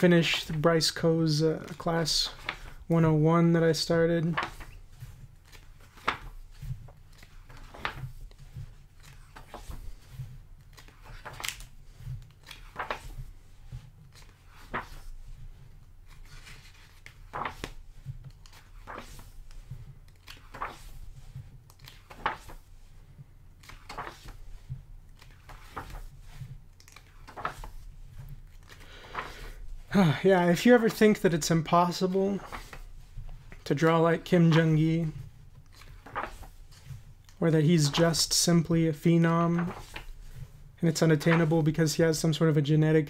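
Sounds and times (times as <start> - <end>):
book pages turning: 0.2 - 2.9, 3.7 - 42.0.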